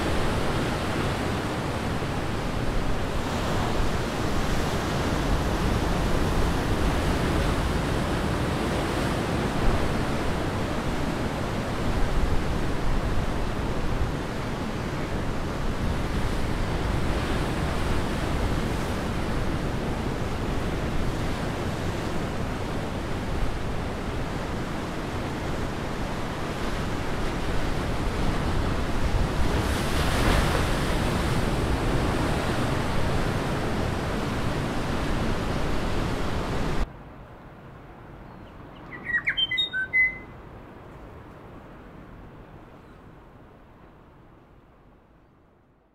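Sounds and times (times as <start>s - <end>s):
ocean surf breaking: 0.0s - 36.9s.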